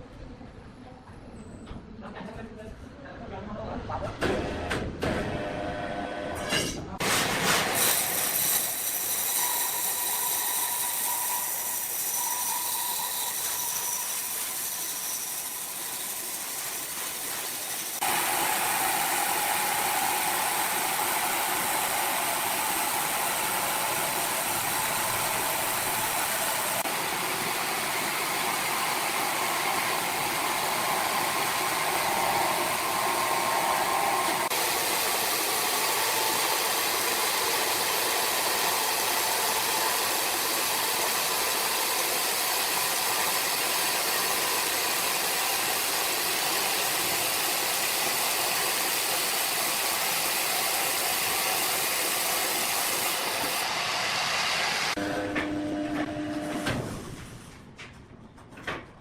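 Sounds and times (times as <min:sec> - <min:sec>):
sawmill machinery running: 0:07.0 - 0:56.5.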